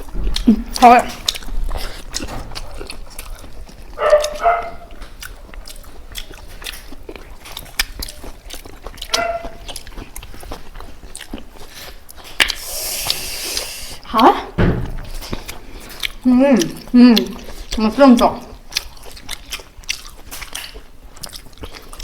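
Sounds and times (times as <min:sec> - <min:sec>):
wet chewing and biting: 0:00.0 - 0:14.1, 0:14.8 - 0:22.0.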